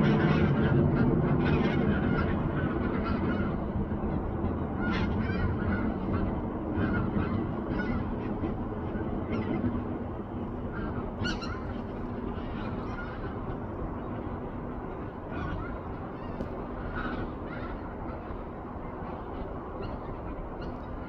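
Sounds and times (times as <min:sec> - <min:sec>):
geese calling: 0:00.0 - 0:09.7, 0:10.6 - 0:14.2, 0:14.8 - 0:21.0
steady low rumble: 0:00.0 - 0:21.0.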